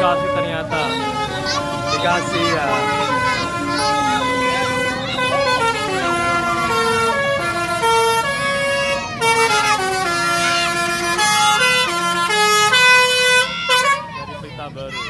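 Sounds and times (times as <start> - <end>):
bus melodic horn playing a tune: 0.0 - 14.4.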